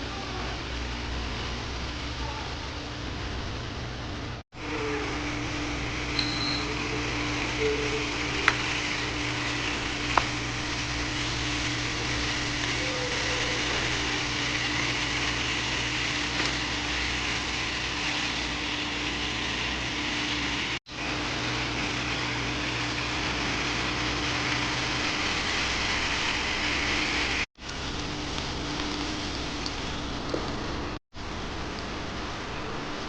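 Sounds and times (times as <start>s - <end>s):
fan motor hum and hiss: 0.0s - 33.0s.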